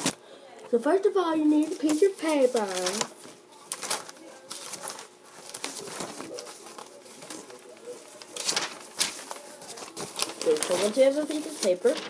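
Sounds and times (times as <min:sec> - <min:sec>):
paper rustling and crinkling: 0:01.5 - 0:12.0.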